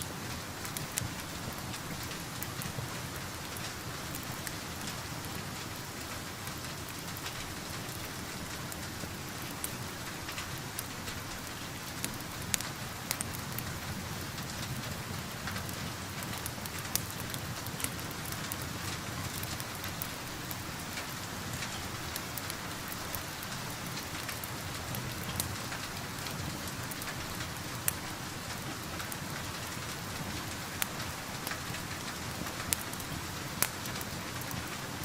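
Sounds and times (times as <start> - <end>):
rain falling: 0.0 - 35.0
wood fire crackling: 0.0 - 35.0.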